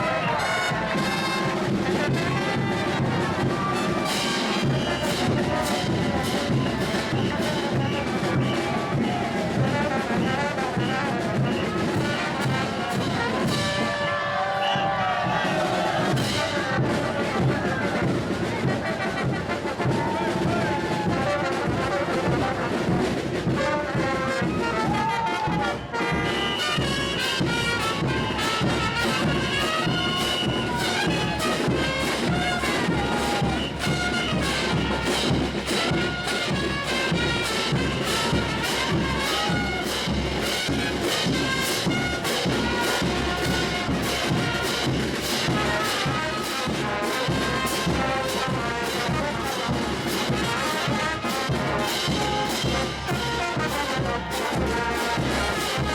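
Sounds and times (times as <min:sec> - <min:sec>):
steady drum beat: 0:00.0 - 0:14.0, 0:14.7 - 0:55.9
brass band parade music: 0:00.0 - 0:55.9.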